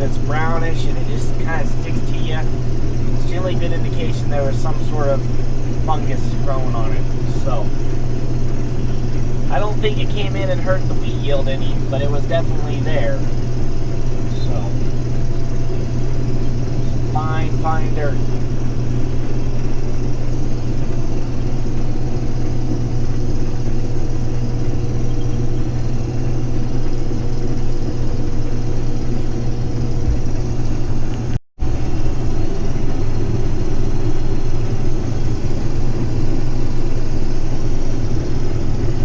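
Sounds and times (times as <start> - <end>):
combine harvester engine drone: 0.0 - 39.0.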